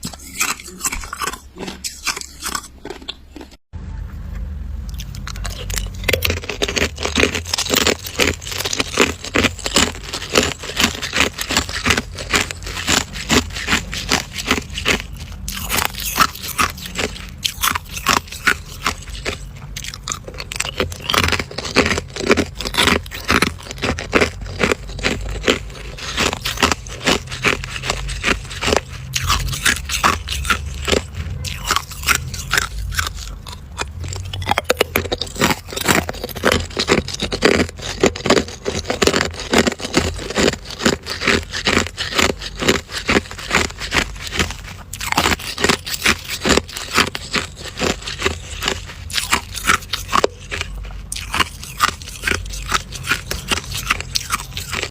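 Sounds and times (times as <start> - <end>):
person crunching ice: 0.0 - 3.6, 4.9 - 54.9.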